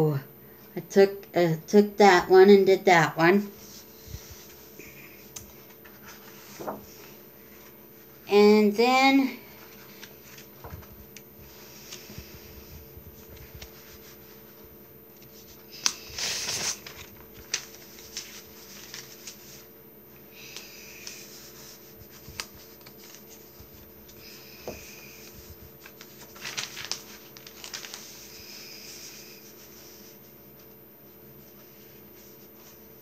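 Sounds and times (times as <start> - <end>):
paper rustling: 3.6 - 8.1, 9.4 - 19.8, 20.4 - 33.0.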